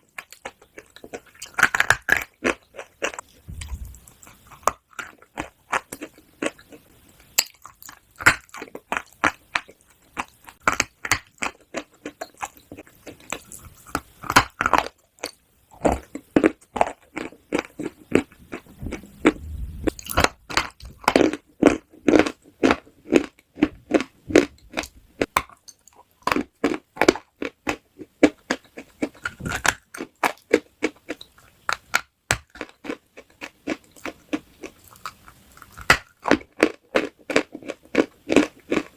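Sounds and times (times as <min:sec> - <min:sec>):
crunchy food being chewed: 0:00.0 - 0:38.9.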